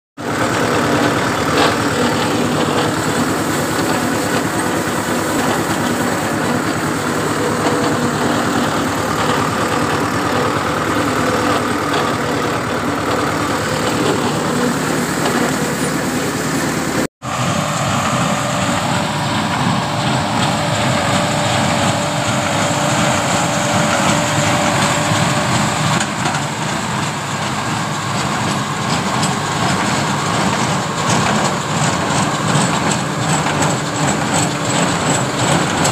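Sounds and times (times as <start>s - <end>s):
tractor diesel engine running: 0.2s - 35.9s.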